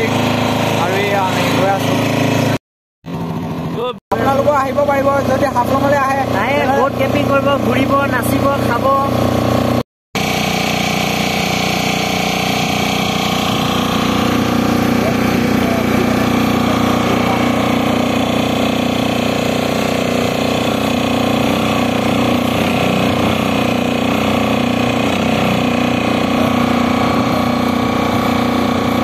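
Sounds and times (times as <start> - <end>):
motorboat engine running: 0.0 - 29.0
water rushing along hull: 0.0 - 29.0.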